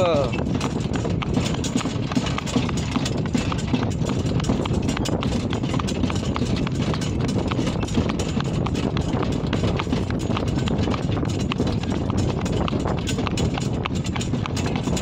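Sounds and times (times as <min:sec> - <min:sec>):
cart rolling rumble: 0:00.0 - 0:15.0
hooves clip-clopping on asphalt: 0:00.0 - 0:15.0.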